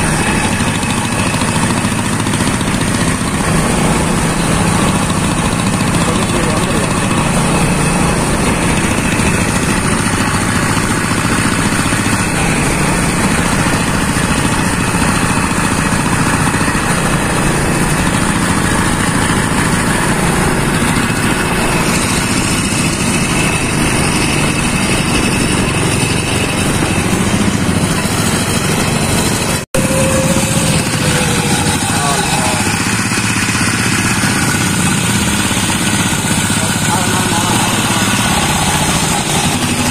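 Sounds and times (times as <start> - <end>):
motorcycle diesel engine running: 0.0 - 39.9.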